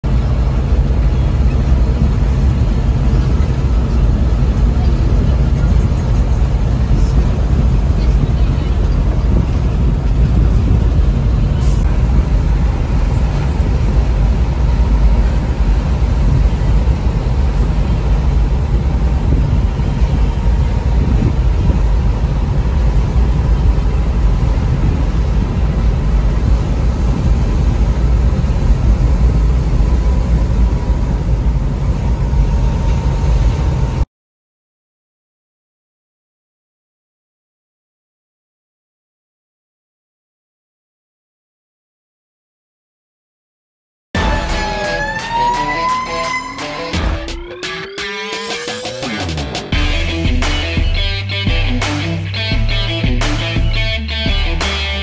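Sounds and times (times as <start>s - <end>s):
truck engine and road rumble: 0.0s - 34.1s, 44.2s - 55.0s.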